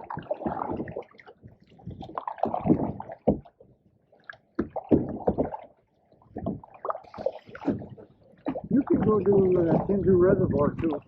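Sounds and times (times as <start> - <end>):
paddle strokes splashing in water: 0.0 - 11.0.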